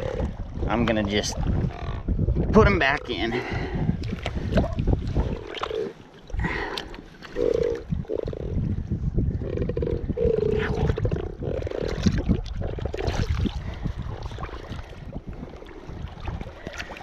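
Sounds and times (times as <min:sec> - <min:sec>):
water sloshing: 0:00.0 - 0:08.4, 0:10.6 - 0:17.0
wind rumbling on microphone: 0:00.0 - 0:17.0.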